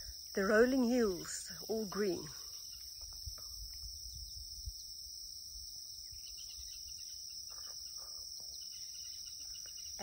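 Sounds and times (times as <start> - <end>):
insect chorus trilling: 0.0 - 10.0.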